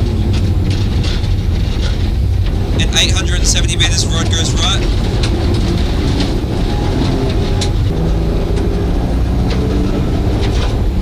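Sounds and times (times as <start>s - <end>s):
car engine under load: 0.0s - 11.0s
road rumble: 0.0s - 11.0s.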